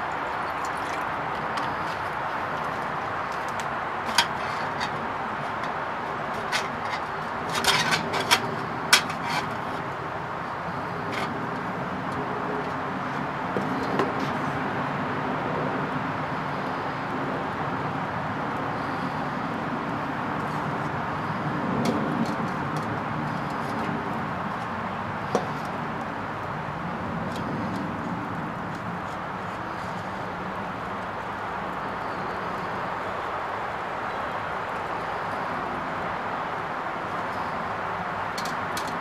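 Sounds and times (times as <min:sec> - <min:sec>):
outdoor background hum: 0:00.0 - 0:39.0.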